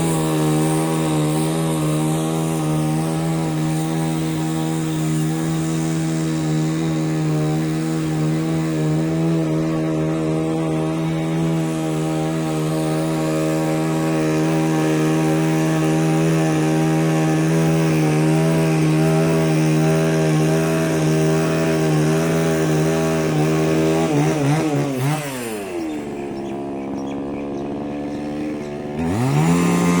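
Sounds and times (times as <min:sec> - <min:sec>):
power saw motor running: 0:00.0 - 0:30.0.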